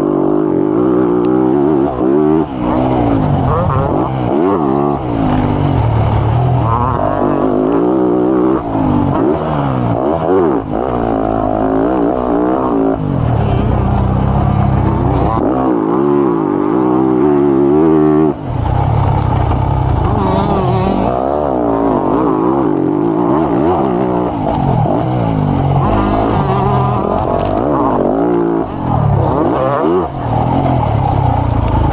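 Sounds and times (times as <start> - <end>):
motorbike engine revving: 0.0 - 31.9.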